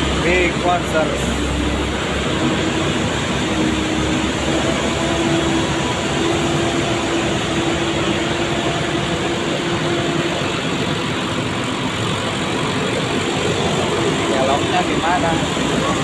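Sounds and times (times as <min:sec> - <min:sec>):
truck engines running: 0:00.0 - 0:16.0.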